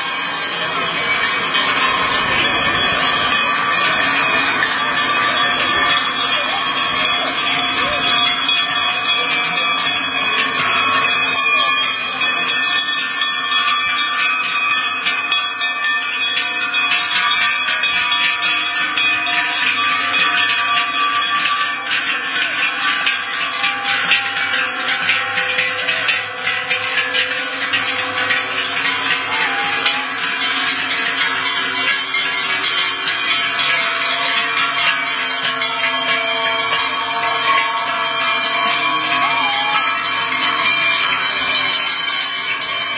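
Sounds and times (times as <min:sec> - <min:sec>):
cowbells clanging: 0:00.0 - 0:42.9.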